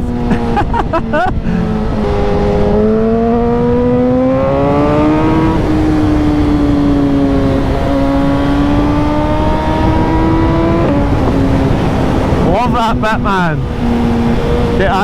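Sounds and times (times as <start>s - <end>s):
motorcycle engine pulling hard: 0.0s - 15.0s
wind rushing: 0.0s - 15.0s.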